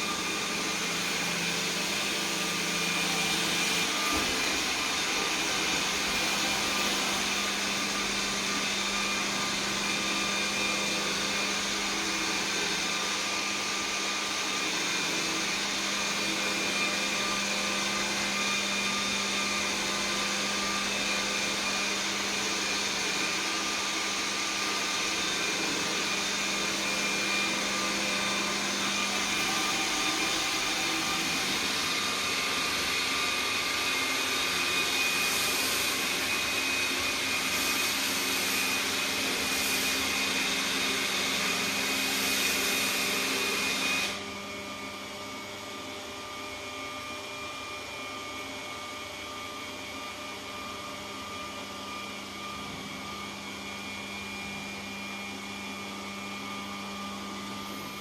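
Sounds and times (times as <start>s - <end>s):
robot vacuum motor whine: 0.0s - 48.5s.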